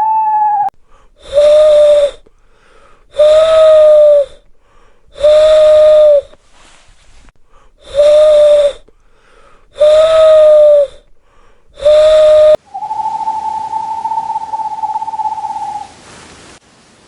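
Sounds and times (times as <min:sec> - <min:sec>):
owl trill: 0:00.0 - 0:04.4, 0:05.1 - 0:06.4, 0:07.8 - 0:16.0
wheezy whistle-like owl calls: 0:00.0 - 0:16.0.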